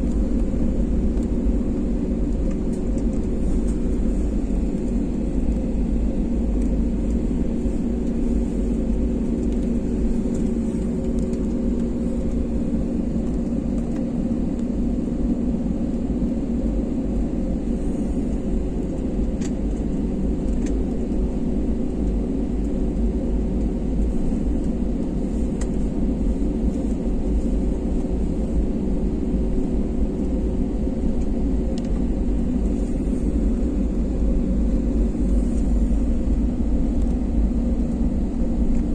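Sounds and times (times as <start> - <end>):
jet engines humming: 0.0 - 38.9.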